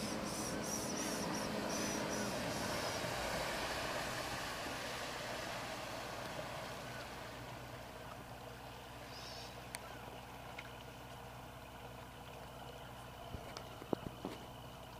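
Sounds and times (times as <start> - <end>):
outboard motor humming: 0.0 - 14.9
water wash: 0.0 - 14.9.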